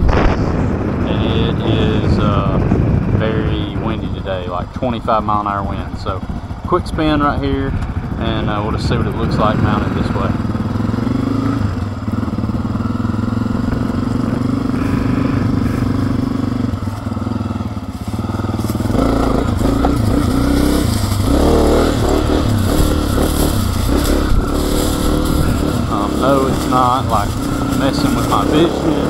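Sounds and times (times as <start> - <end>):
motorcycle engine running: 0.0 - 29.0
wind rumbling on microphone: 0.0 - 29.0.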